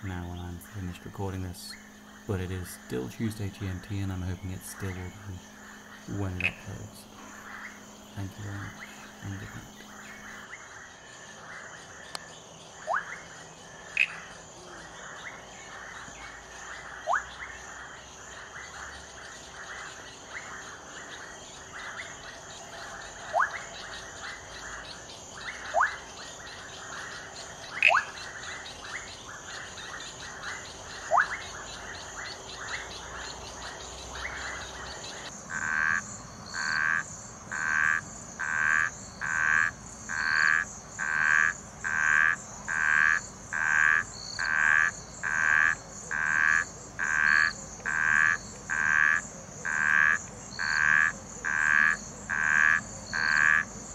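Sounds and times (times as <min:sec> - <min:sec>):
frog croaking: 0:00.0 - 0:53.9
night chorus of pulsing calls: 0:00.0 - 0:53.9.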